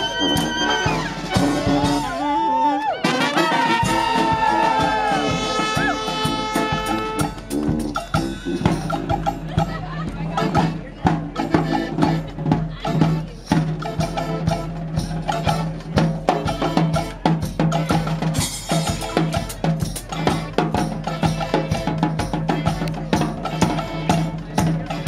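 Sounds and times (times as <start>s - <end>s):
bass drum and snare beat: 0.0s - 2.3s, 3.6s - 25.0s
brass band playing: 0.0s - 25.0s.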